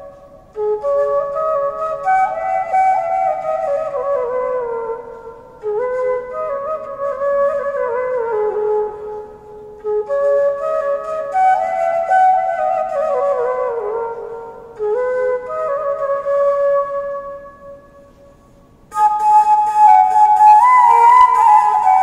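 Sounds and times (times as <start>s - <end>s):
bamboo flute melody: 0.0s - 22.0s.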